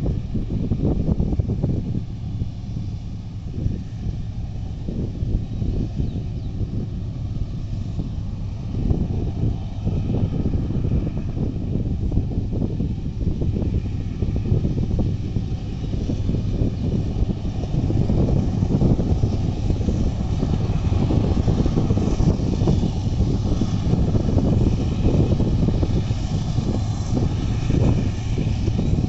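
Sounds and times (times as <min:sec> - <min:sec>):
diesel locomotive engine rumble: 0:00.0 - 0:29.0.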